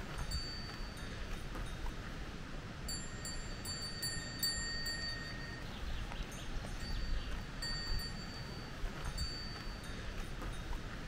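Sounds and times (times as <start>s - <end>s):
low wind noise: 0.0s - 11.0s
cowbells ringing: 0.1s - 1.8s, 2.9s - 5.7s, 6.4s - 10.8s.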